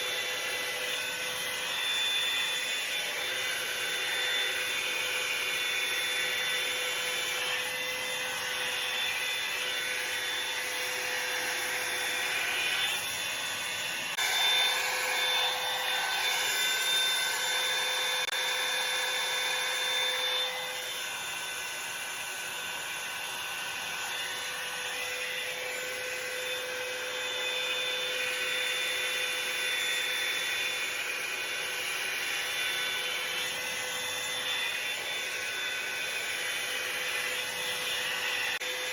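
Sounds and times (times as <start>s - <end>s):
hair dryer blowing with motor whine: 0.0s - 38.9s.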